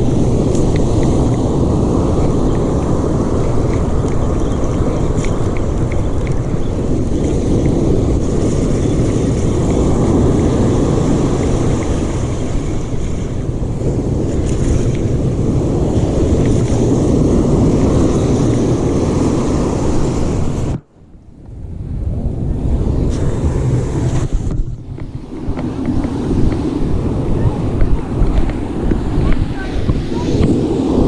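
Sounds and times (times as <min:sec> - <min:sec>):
ocean surf on beach: 0:00.0 - 0:31.0
strong wind buffeting microphone: 0:00.0 - 0:31.0.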